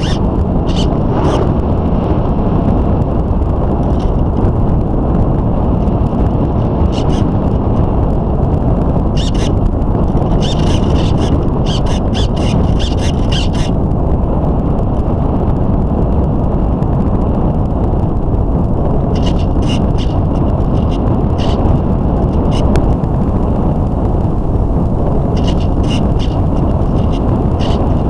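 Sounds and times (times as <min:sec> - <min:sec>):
airflow and motor noise: 0:00.0 - 0:28.0.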